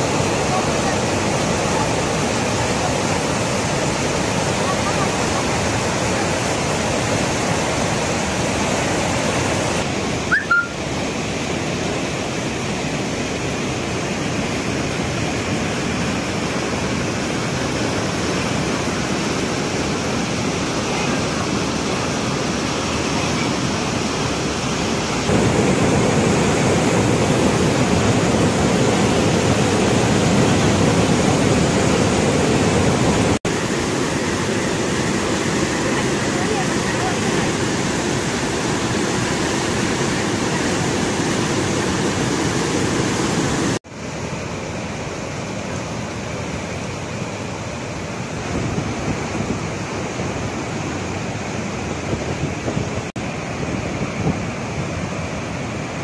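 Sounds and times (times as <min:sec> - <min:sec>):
flood water rushing: 0:00.0 - 0:56.0.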